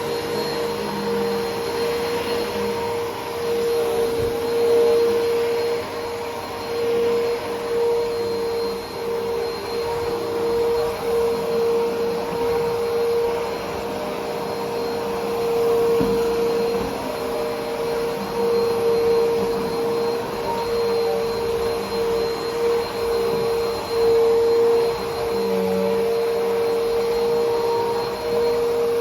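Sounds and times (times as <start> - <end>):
vacuum cleaner motor whine: 0.0 - 29.0.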